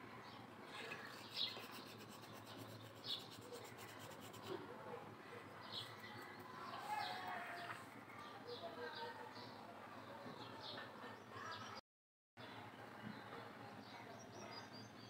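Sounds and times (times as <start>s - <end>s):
faint background noise: 0.0s - 11.8s, 12.4s - 15.0s.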